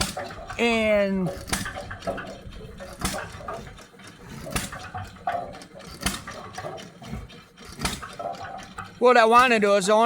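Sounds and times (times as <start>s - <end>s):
engine clicking: 0.0s - 10.0s.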